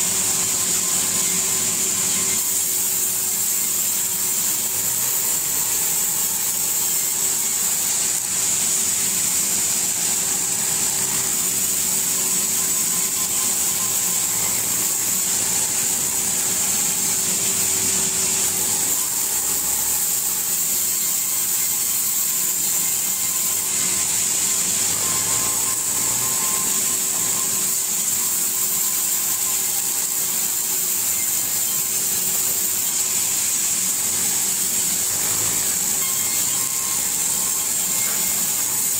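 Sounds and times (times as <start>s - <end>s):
sawmill saw cutting logs: 0.0s - 38.9s.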